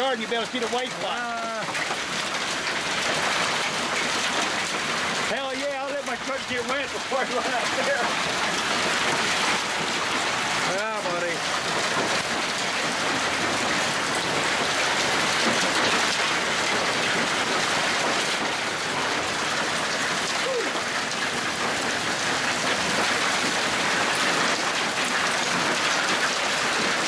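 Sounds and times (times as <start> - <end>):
heavy rain and hail: 0.0 - 27.0.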